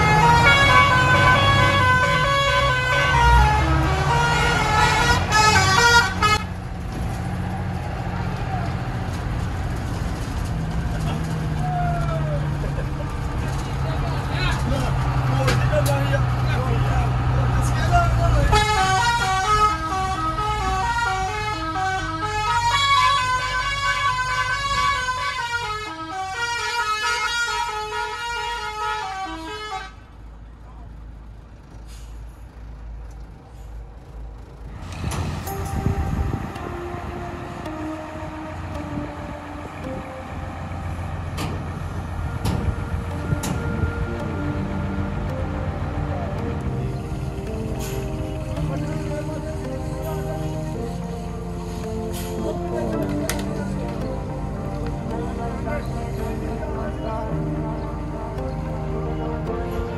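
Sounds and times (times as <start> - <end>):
musical bus horn playing tune: 0.0 - 9.1, 13.5 - 30.2, 34.8 - 59.9
bus engine running: 0.0 - 59.9.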